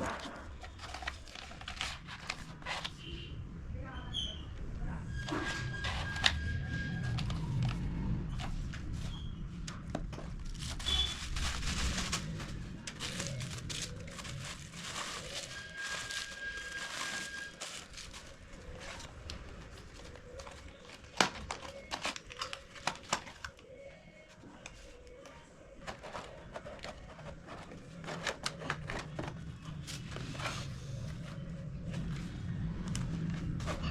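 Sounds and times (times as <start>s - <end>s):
packaging crinkling and rustling: 0.0s - 3.1s, 5.3s - 23.8s, 24.6s - 33.9s.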